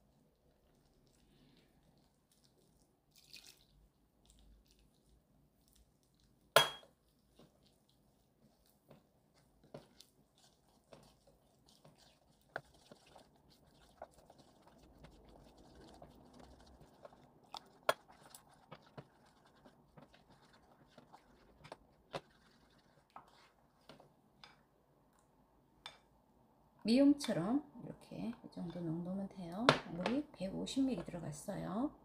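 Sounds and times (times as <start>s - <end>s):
wet batter mixing: 0.0s - 25.9s, 26.9s - 32.0s.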